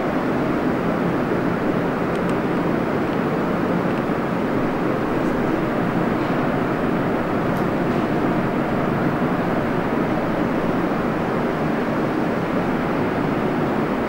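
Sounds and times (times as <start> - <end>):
subway station rumble: 0.0 - 14.0.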